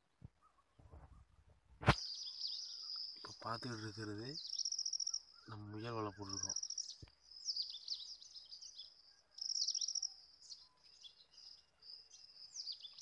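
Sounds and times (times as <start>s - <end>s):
chorus of high-pitched chirps and trills: 2.0s - 13.0s.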